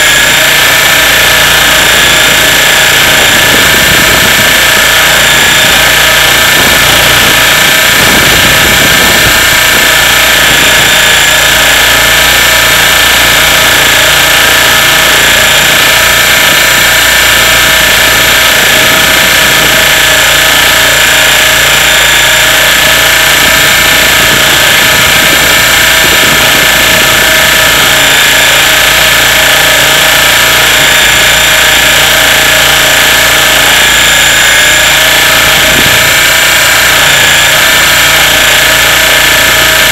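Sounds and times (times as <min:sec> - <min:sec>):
model helicopter motor and rotor: 0:00.0 - 0:39.9.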